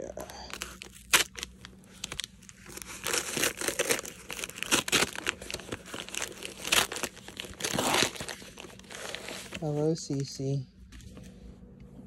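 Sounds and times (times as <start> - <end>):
paper crinkling and ripping: 0.4 - 10.4.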